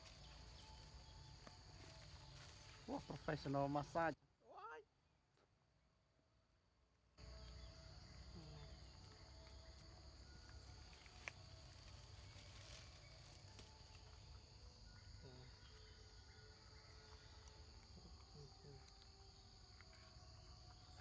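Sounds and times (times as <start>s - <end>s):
insects droning: 0.0s - 4.2s, 7.2s - 21.0s.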